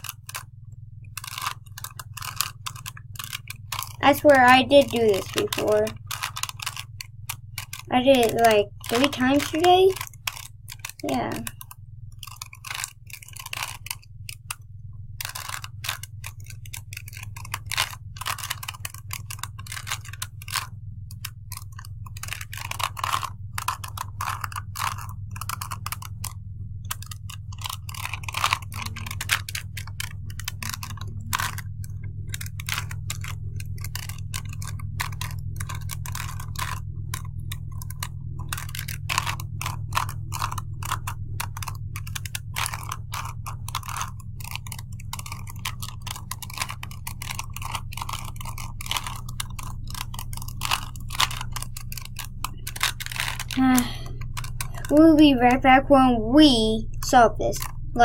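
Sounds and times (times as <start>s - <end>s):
puzzle cube twisting clicks: 0.0s - 0.5s, 1.1s - 56.0s, 56.8s - 58.0s
steady low hum: 0.0s - 58.0s.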